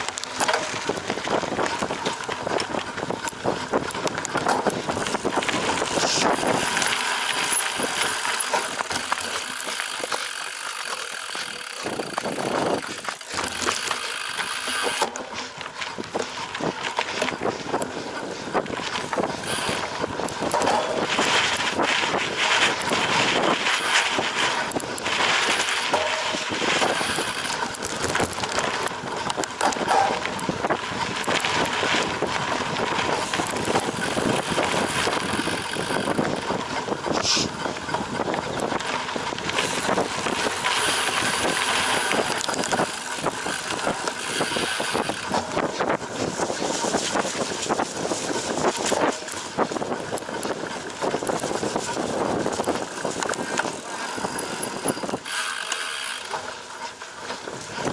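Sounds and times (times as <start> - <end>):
bike frame and chain rattling: 0.0 - 57.9
bike tyres rumbling on ground: 0.0 - 57.9.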